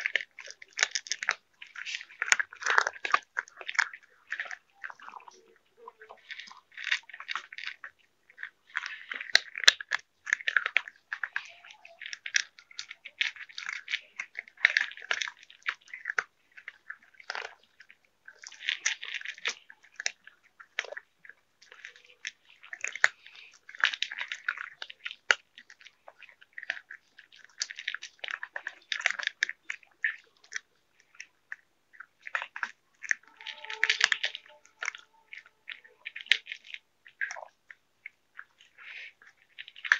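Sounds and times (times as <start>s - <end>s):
cats crunching dry kibble: 0.0s - 39.9s.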